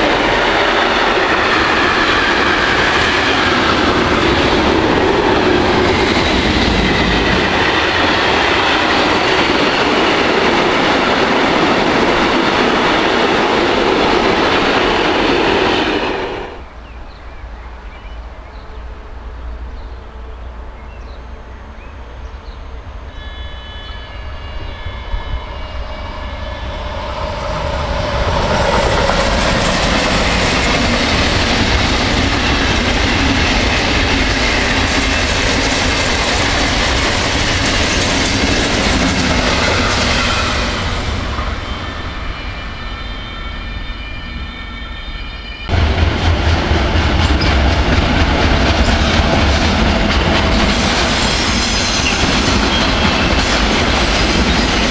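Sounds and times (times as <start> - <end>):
train wheels rumbling on rails: 0.0 - 22.9, 24.2 - 42.9, 45.6 - 54.9.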